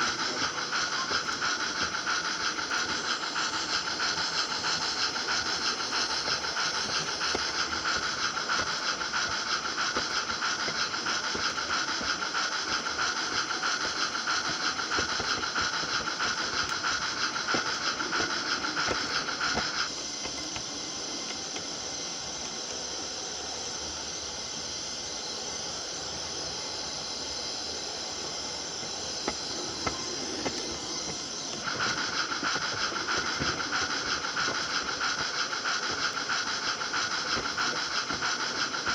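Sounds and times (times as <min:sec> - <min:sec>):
model steam train chuffing: 0:00.0 - 0:38.9.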